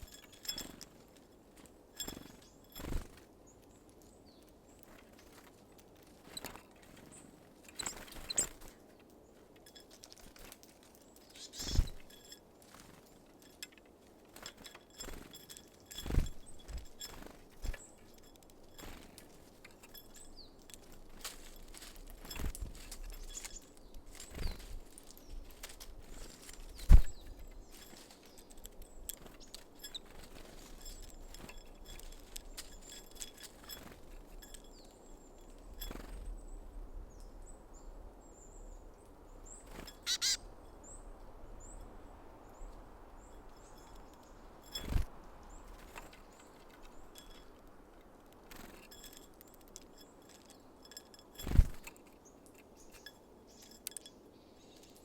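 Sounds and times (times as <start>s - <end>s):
birds pecking and landing knocks: 0.0s - 36.4s, 39.4s - 40.4s, 43.2s - 55.0s
small birds chirping: 0.0s - 55.0s.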